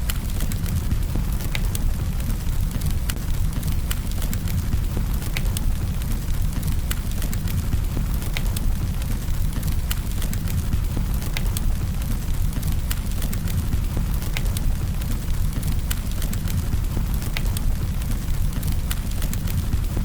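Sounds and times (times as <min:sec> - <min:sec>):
campfire crackling: 0:00.0 - 0:20.0
low rumble of flames: 0:00.0 - 0:20.0.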